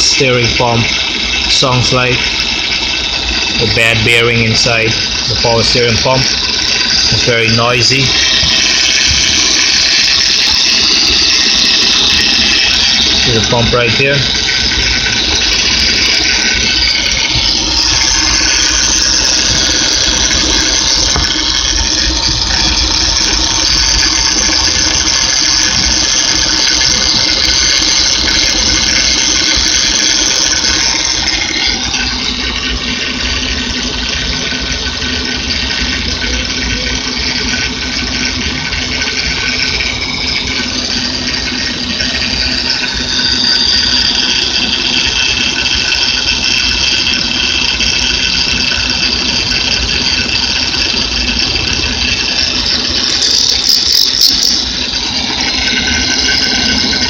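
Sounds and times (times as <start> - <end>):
car engine running: 0.0 - 57.0
power steering pump whining: 0.0 - 57.0.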